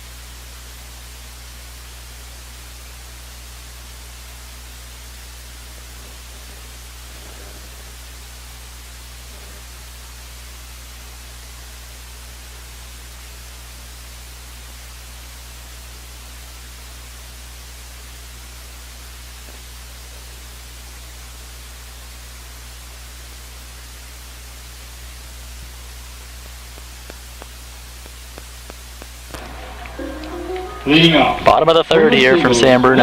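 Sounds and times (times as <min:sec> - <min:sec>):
electronic hiss: 0:00.0 - 0:31.4
low constant hum: 0:00.0 - 0:33.0.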